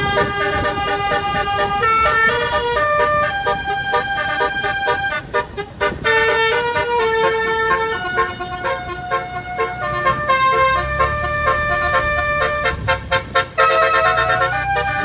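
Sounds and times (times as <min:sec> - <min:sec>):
bus horn playing a tune: 0:00.0 - 0:15.0.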